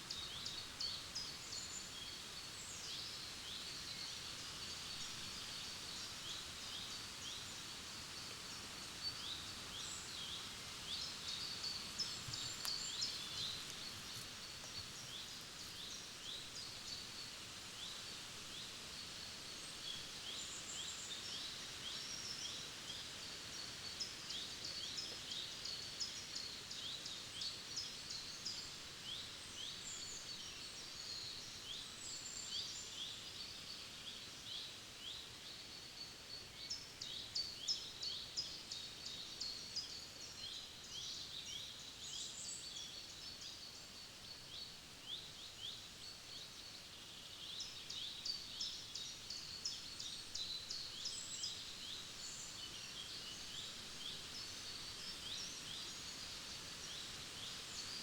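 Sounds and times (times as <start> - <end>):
faint steady background hiss: 0.0 - 58.0
small songbirds singing: 0.0 - 58.0.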